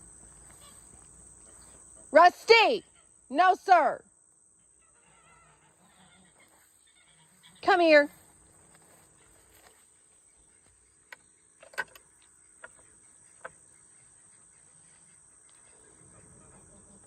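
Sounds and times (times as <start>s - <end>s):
high-pitched insect drone: 0.0s - 9.8s, 12.2s - 17.0s.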